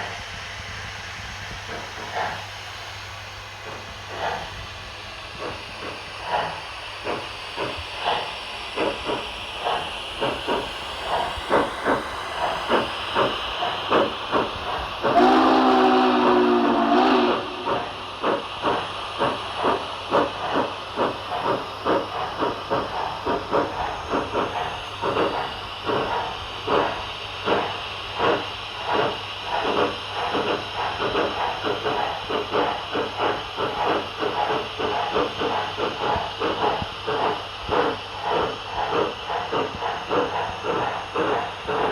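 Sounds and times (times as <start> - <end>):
steam hiss: 0.0 - 41.9.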